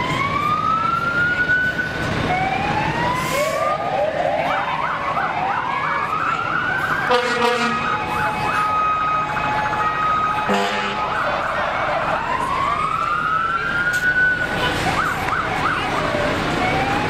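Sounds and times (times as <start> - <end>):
fire truck siren wailing: 0.0 - 17.0
siren steady tone: 0.0 - 17.0
siren yelps: 0.0 - 17.0.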